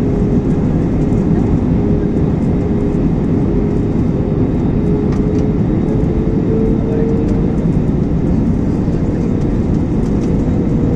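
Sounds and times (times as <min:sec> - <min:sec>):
jet engines and rushing air: 0:00.0 - 0:10.9
steady cabin hum: 0:00.0 - 0:10.9.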